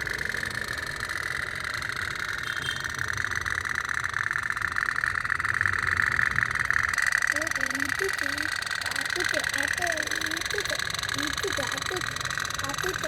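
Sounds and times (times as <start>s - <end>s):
pop-pop steam boat engine putting: 0.0s - 13.0s.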